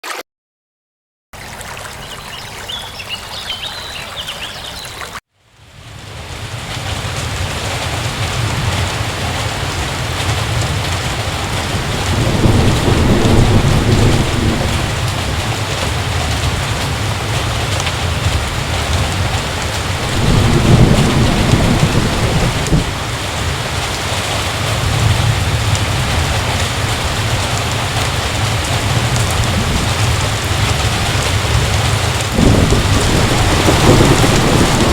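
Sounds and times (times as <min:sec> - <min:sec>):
heavy rain pouring: 0:05.5 - 0:34.9
low rolls of thunder: 0:05.9 - 0:23.9, 0:24.6 - 0:34.9.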